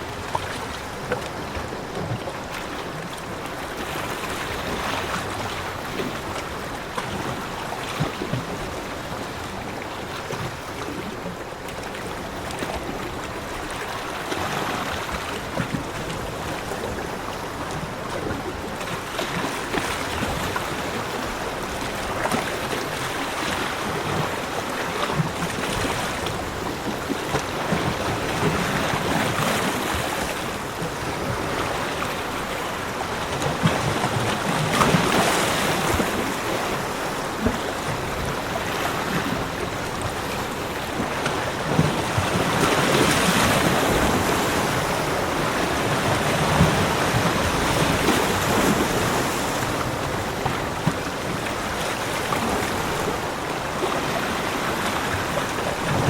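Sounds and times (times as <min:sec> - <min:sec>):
sea waves washing on beach: 0:00.0 - 0:56.0.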